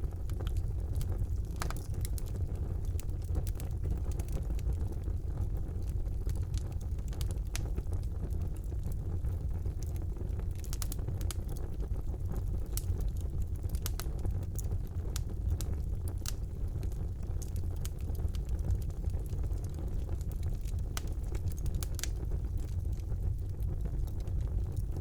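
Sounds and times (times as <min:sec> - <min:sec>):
burning logs popping and crackling: 0:00.0 - 0:25.0
flames rumbling: 0:00.0 - 0:25.0.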